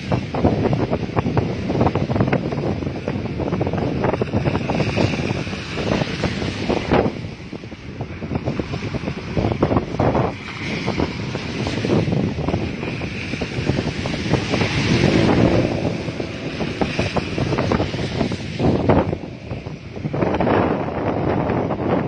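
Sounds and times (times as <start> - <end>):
sea waves surging: 0.0 - 22.0
wind buffeting microphone: 0.0 - 22.0.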